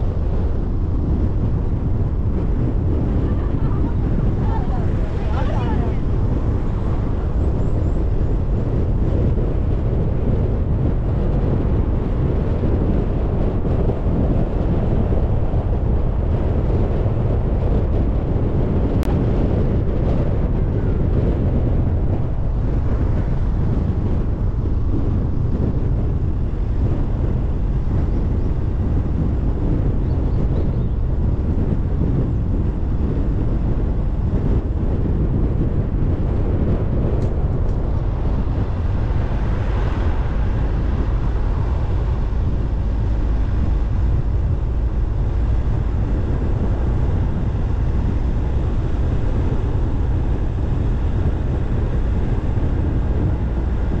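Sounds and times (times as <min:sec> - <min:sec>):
car tyres and engine rumbling: 0:00.0 - 0:54.0.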